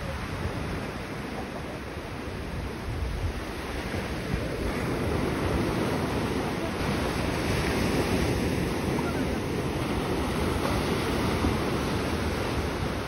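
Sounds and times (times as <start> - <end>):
waves washing up a beach: 0.0 - 13.0
wind buffeting microphone: 0.0 - 13.0.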